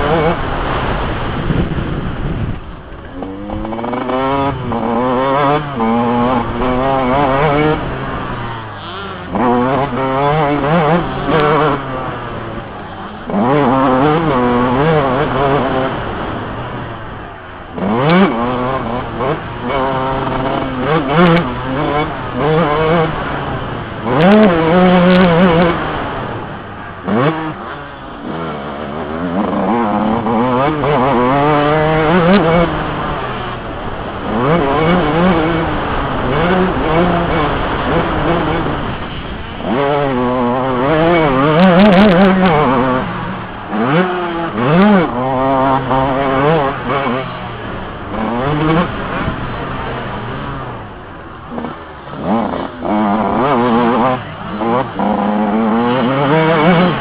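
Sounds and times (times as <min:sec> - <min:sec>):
two-stroke motocross engine revving: 0:00.0 - 0:57.0.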